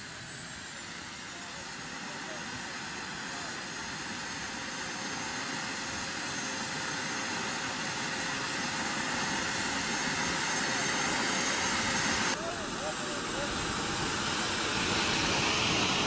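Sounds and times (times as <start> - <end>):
model jet turbine running: 0.0 - 16.0.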